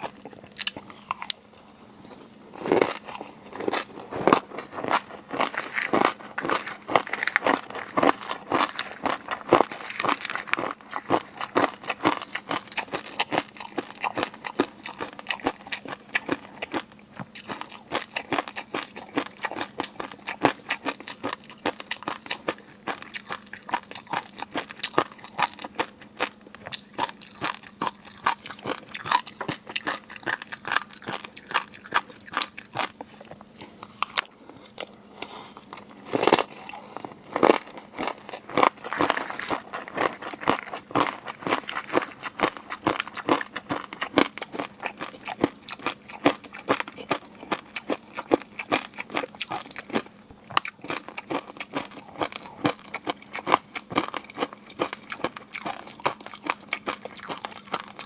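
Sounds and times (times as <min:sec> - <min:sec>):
crunchy chewing and biting: 0:00.0 - 0:58.0.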